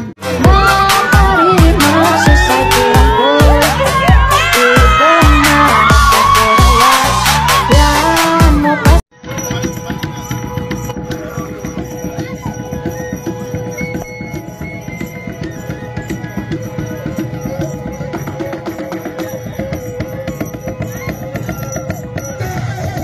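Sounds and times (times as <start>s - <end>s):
drums beaten in quick rhythm: 0.1s - 23.0s.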